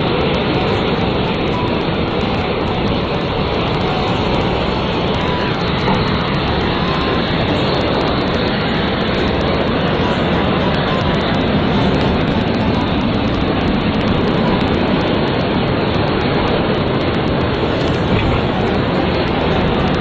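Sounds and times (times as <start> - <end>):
boat engine running hard: 0.0 - 20.0
surf water rushing and breaking: 0.0 - 20.0.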